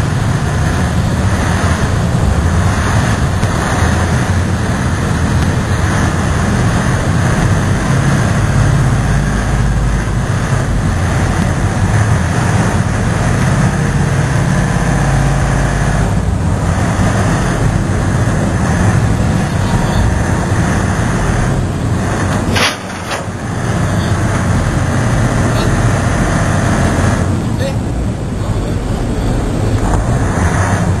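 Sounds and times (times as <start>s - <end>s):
diesel engines running: 0.0s - 31.0s.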